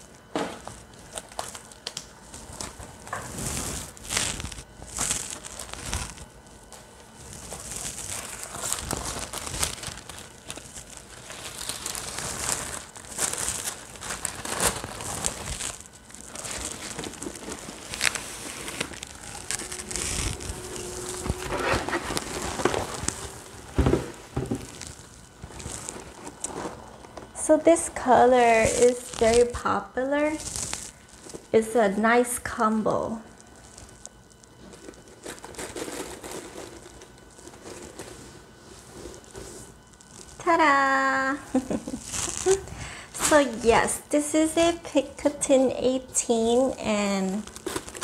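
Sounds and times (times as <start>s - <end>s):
tissue paper crinkling: 0.6s - 27.1s, 28.4s - 31.6s, 33.3s - 43.9s, 46.6s - 48.0s.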